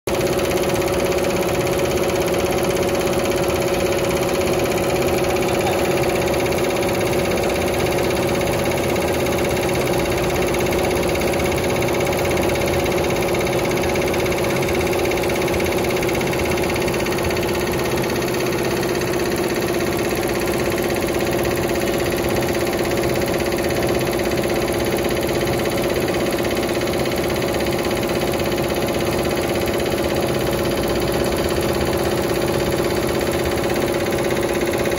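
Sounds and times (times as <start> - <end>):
embroidery machine running: 0.1 - 34.9.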